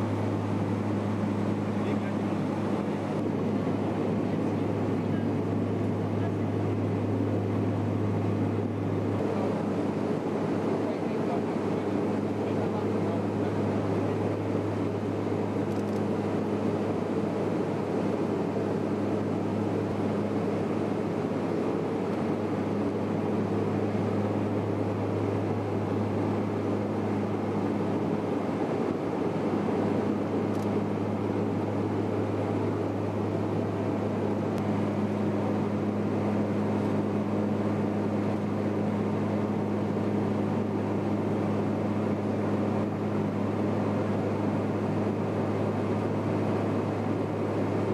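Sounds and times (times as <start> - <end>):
aircraft engine drone in cabin: 0.0 - 47.9.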